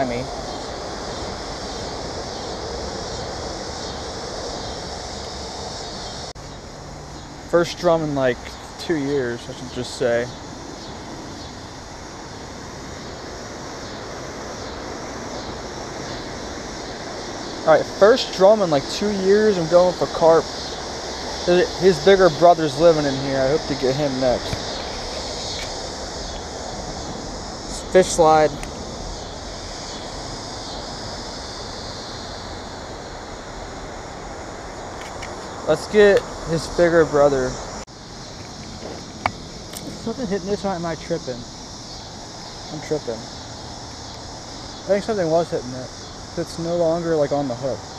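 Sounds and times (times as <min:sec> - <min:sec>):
steady rushing noise: 0:00.0 - 0:47.9.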